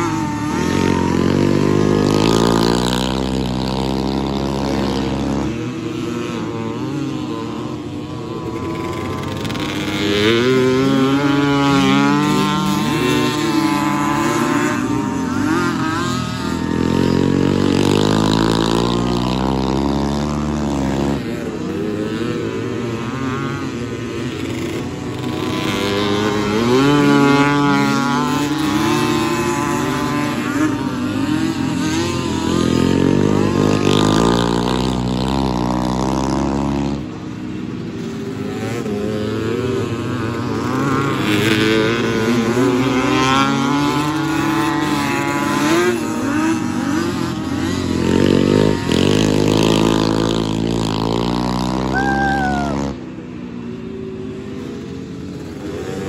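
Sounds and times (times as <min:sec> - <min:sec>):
racing quad engines revving: 0:00.0 - 0:56.0.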